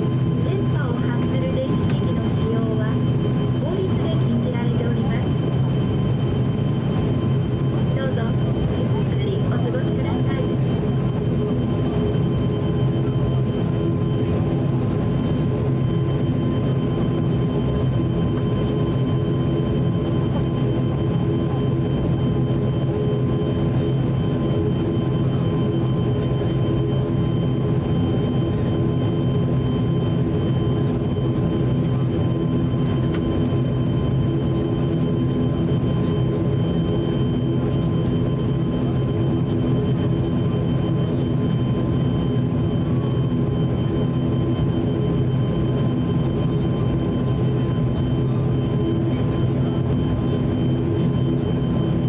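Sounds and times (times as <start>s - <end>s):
propeller drone: 0.0s - 52.0s
thin steady whine: 0.0s - 52.0s.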